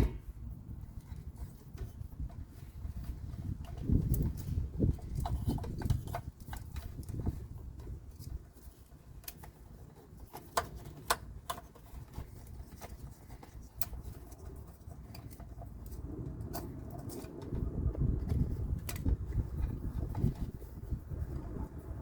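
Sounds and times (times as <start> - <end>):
low rumble of handling noise: 0.0 - 22.0.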